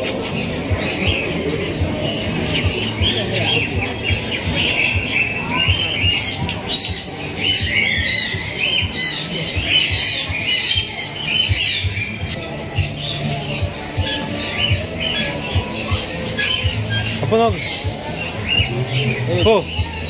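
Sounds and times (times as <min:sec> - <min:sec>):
cage birds chirping and squawking: 0:00.0 - 0:20.0.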